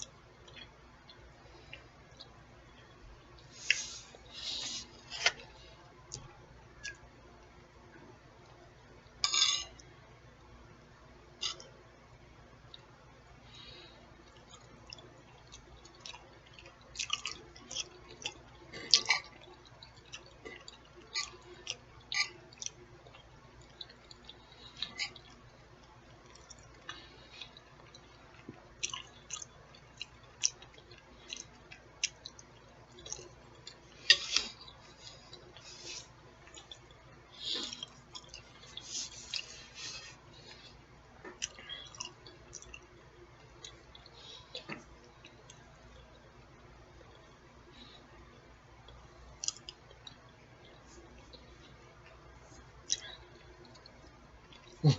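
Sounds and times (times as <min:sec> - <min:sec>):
person chewing food: 0:00.0 - 0:07.1, 0:11.4 - 0:11.8, 0:12.6 - 0:48.1, 0:48.8 - 0:54.9.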